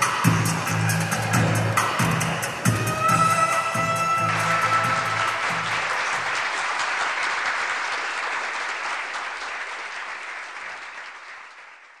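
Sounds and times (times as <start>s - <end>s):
audience applauding: 1.1s - 12.0s.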